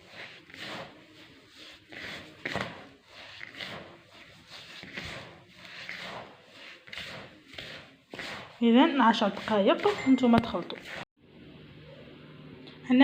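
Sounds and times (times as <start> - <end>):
hands rubbing grain in a bowl: 0.0 - 11.0.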